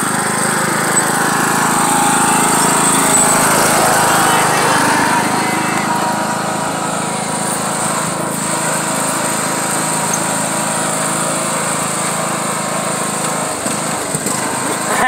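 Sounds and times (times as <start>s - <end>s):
riding lawn mower engine running: 0.0s - 15.0s.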